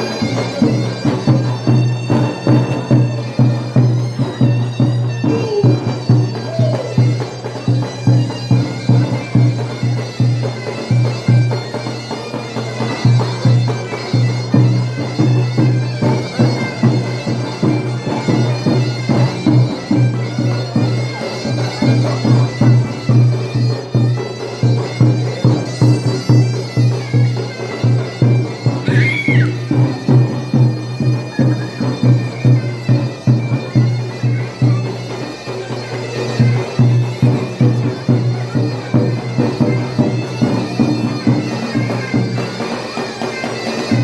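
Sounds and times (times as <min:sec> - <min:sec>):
reedy pipe melody: 0:00.0 - 0:44.0.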